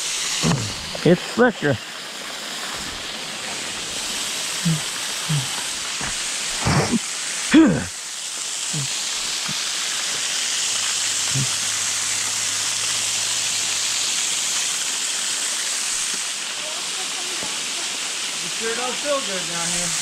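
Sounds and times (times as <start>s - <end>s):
waterfall splashing over rocks: 0.0s - 20.0s.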